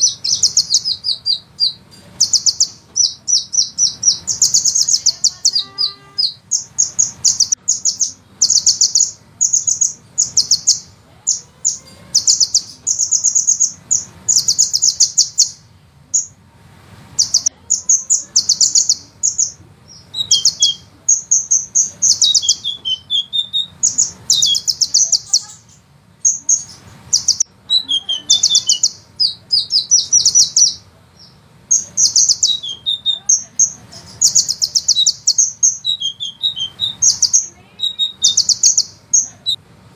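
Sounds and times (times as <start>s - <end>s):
sunbird singing high trills: 0.0s - 16.4s, 17.2s - 39.6s.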